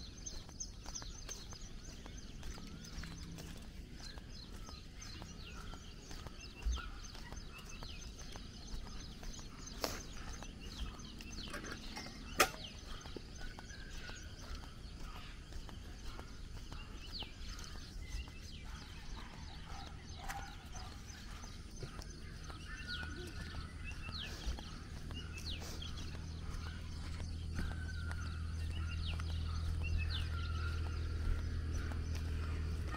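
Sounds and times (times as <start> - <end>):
footsteps on paving stones: 0.0 - 32.9
road traffic hum: 0.0 - 32.9
small birds chirping: 0.0 - 32.9.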